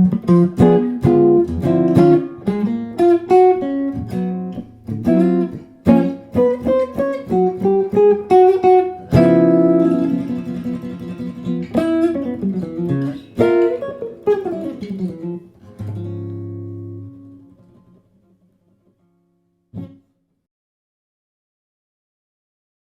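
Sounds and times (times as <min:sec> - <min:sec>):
jazz guitar playing: 0:00.0 - 0:20.0.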